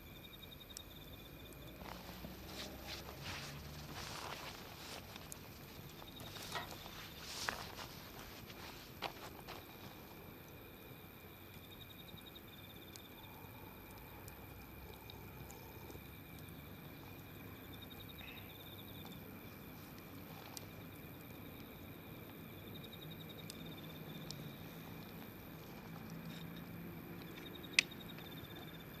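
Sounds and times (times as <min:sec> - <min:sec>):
insect chirping trills: 0:00.0 - 0:29.0
wood fire crackling: 0:00.0 - 0:29.0.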